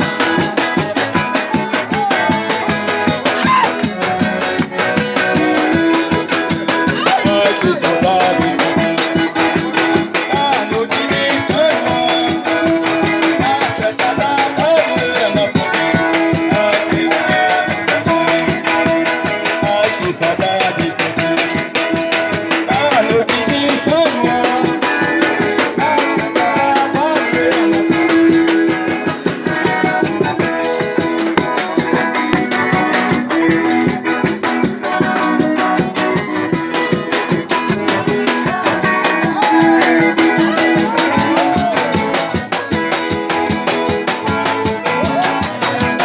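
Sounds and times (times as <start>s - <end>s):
lively music with singing: 0.0s - 46.0s.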